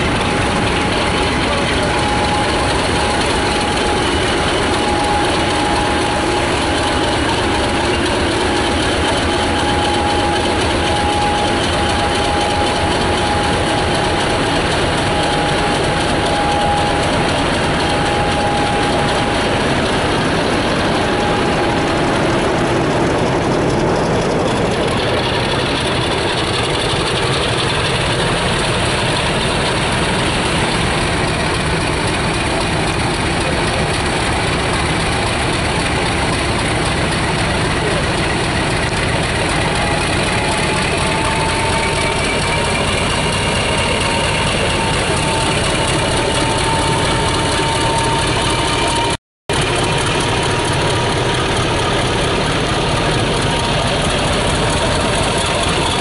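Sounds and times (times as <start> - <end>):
diesel locomotive running past: 0.0 - 56.0
steady whine: 0.0 - 56.0.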